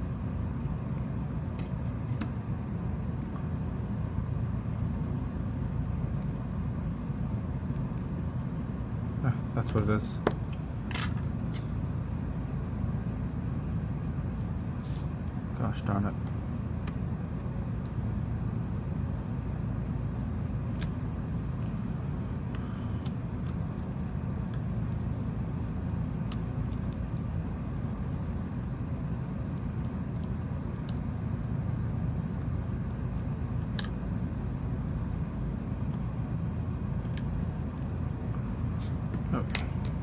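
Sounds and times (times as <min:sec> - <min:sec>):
low background rumble: 0:00.0 - 0:40.0.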